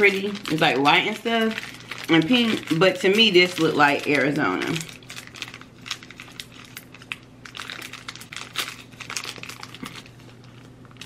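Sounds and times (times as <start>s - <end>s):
plastic snack pouch crinkling: 0.0s - 11.0s.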